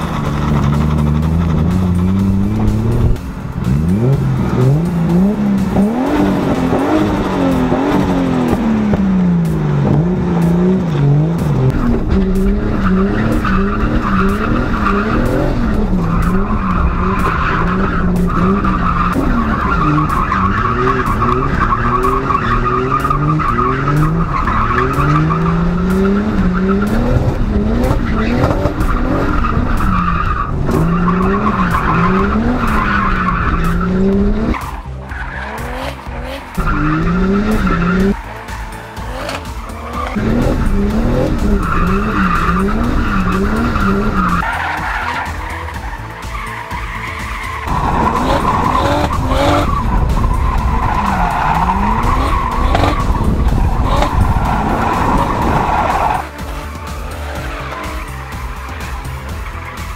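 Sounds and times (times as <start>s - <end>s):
car engine revving: 0.0s - 59.9s
tyres squealing: 11.0s - 59.9s.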